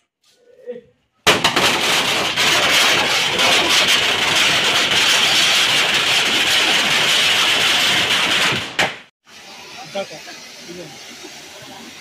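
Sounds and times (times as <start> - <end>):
firecracker string crackling: 1.2 - 12.0.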